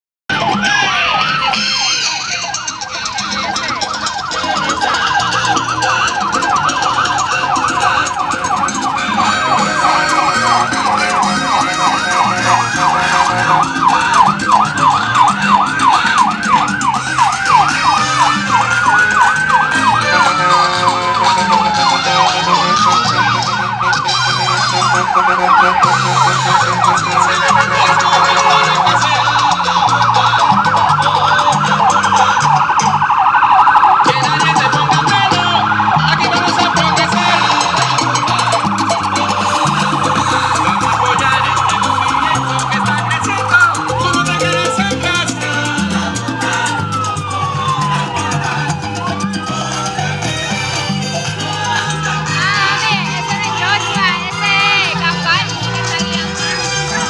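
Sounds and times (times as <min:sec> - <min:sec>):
siren wail: 0:00.3 - 0:57.0
sirens yelping: 0:00.3 - 0:57.0.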